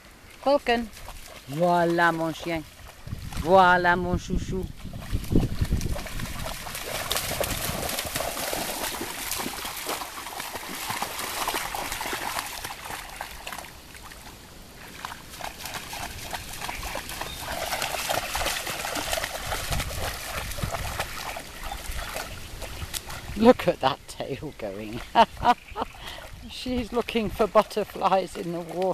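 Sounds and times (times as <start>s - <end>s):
dogs splashing through shallow water: 0.0s - 28.9s.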